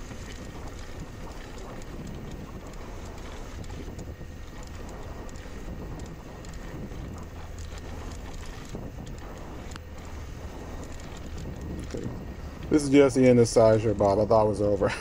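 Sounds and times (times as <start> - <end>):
faint rattling clicks from bike: 0.0 - 15.0
wind buffeting microphone: 0.0 - 15.0.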